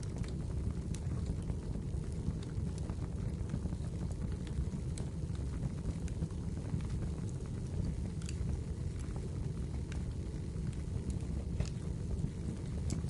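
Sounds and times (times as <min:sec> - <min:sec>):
low rumble of burning wood: 0:00.0 - 0:13.0
wood fire crackling: 0:00.0 - 0:13.0.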